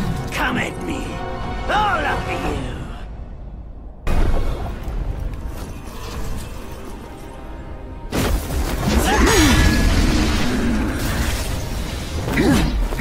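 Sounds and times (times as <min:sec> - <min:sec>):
film soundtrack music: 0:00.0 - 0:13.0.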